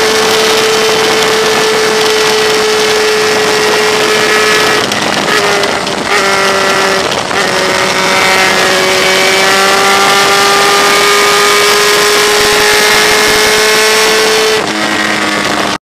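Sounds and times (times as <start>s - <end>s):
motorcycle engine accelerating: 0.0s - 15.8s
wind rushing over microphone: 0.0s - 15.8s.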